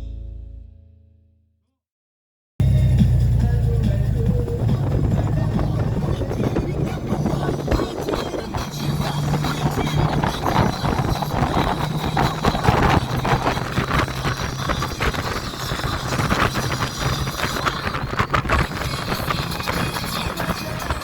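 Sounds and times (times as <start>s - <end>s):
motorcycle engine drone: 2.6s - 21.0s
wind buffeting microphone: 3.0s - 21.0s.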